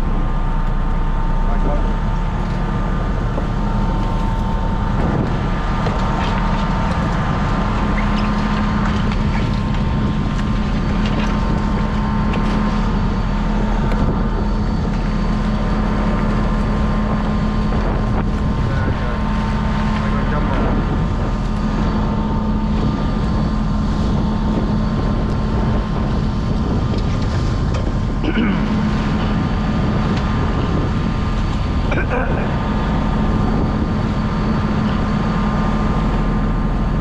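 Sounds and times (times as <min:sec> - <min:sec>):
boat engine humming: 0:00.0 - 0:37.0
wind on microphone: 0:00.0 - 0:37.0.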